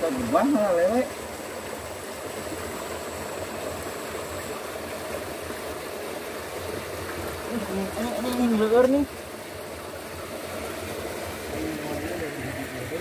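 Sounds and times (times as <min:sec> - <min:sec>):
water rushing in a ditch: 0:00.0 - 0:13.0.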